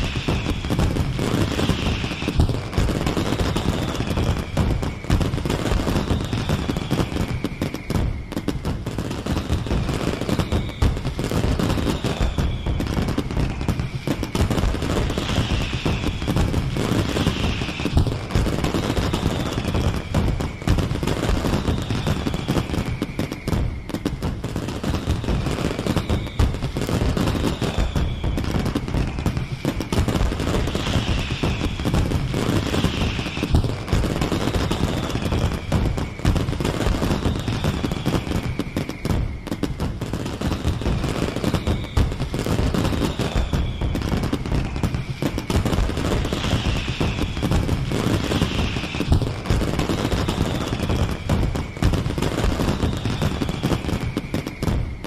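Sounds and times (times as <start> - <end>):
fireworks bangs and crackling: 0.0 - 55.0
high falling whistle: 0.0 - 55.0.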